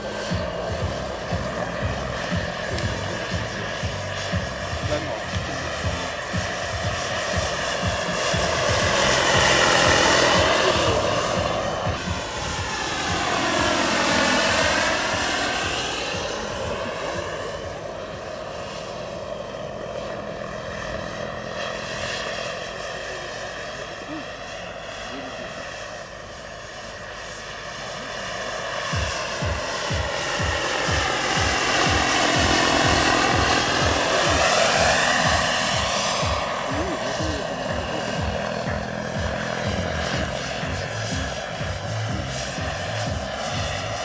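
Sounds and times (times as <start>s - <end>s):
model helicopter rotor whining: 0.0s - 44.0s.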